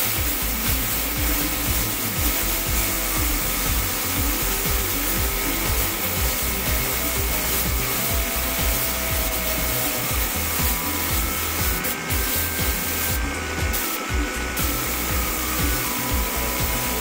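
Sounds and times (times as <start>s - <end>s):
music: 0.0s - 17.0s
paint spray gun hissing: 0.0s - 17.0s.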